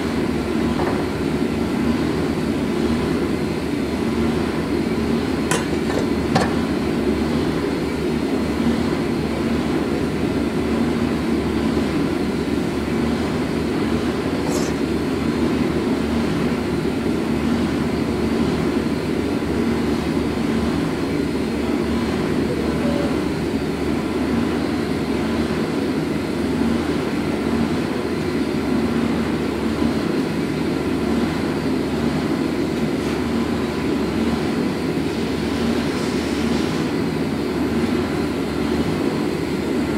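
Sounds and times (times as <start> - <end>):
machine drone: 0.0 - 39.9.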